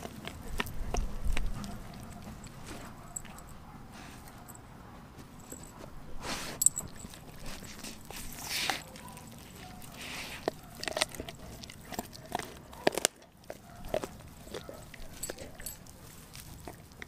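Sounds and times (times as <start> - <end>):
dog licking: 0.0 - 3.4, 6.6 - 17.0
dog crunching on bone: 0.0 - 17.0.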